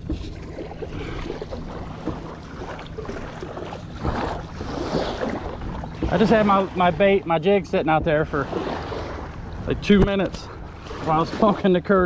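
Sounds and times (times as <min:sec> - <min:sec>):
river water washing: 0:00.0 - 0:12.0.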